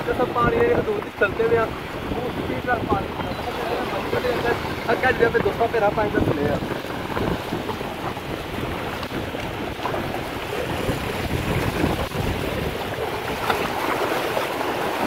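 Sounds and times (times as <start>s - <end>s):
waves splashing against rocks: 0.0s - 15.0s
wind buffeting microphone: 0.0s - 15.0s.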